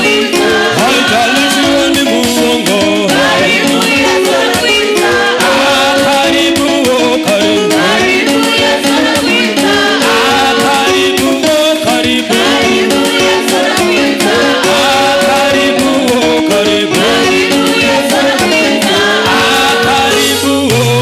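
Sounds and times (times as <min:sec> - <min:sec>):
band playing a steady beat: 0:00.0 - 0:21.0
shaker percussion: 0:00.0 - 0:21.0
voices singing: 0:00.0 - 0:21.0.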